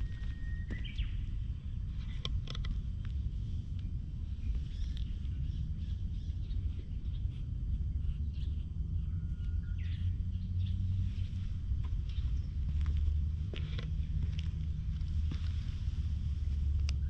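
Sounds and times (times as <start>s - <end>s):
small birds chirping faintly: 0.0s - 2.3s, 2.9s - 17.0s
steady low rumble: 0.0s - 17.0s.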